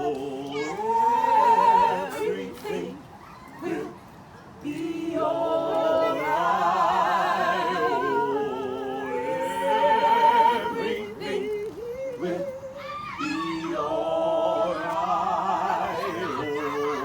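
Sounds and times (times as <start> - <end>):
group singing a cappella: 0.0 - 17.0.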